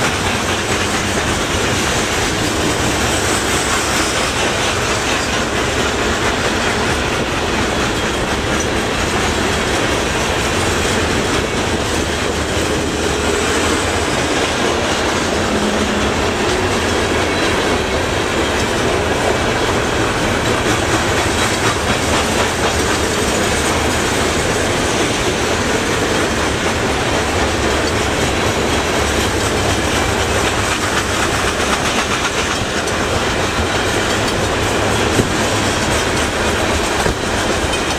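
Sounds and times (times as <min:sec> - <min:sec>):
freight train rumbling past: 0:00.0 - 0:37.9
wheels clacking over rail joints: 0:00.0 - 0:37.9.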